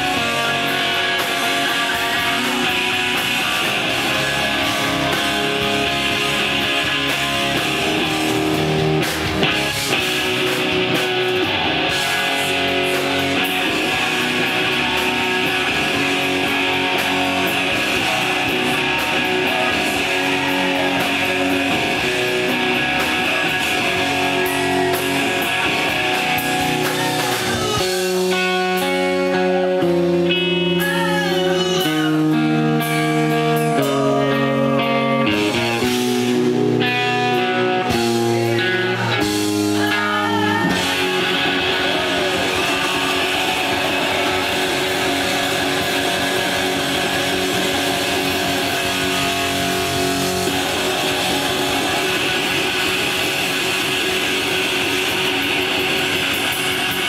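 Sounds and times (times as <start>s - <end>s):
distorted electric guitars: 0.0s - 57.0s
drums: 0.0s - 57.0s.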